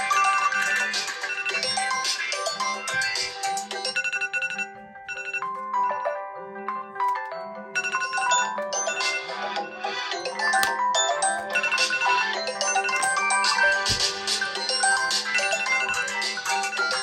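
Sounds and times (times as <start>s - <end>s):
alarm clock tones: 0.0s - 6.1s, 7.1s - 17.0s
phone ringtones: 0.0s - 6.2s, 7.8s - 9.4s, 10.3s - 17.0s.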